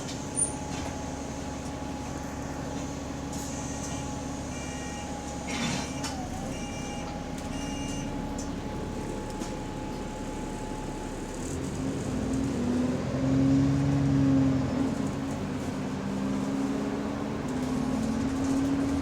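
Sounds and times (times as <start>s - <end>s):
bus drivetrain running: 0.0s - 19.0s.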